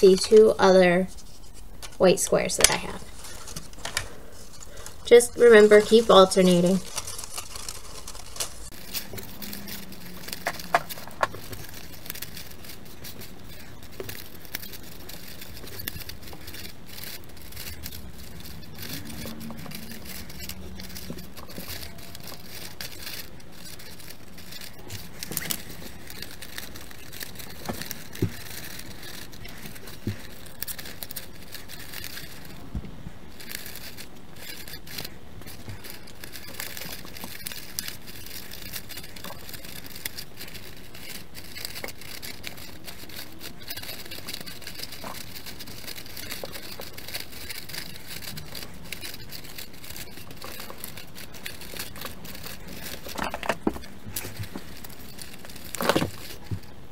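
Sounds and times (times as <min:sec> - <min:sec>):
paper crinkling and rustling: 0:00.0 - 0:56.9.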